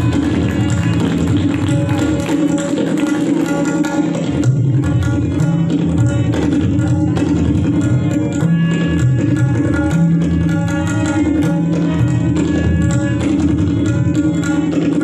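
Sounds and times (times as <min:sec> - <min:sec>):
sustained melodic accompaniment: 0:00.0 - 0:15.0
tabla rapid strokes: 0:00.0 - 0:15.0.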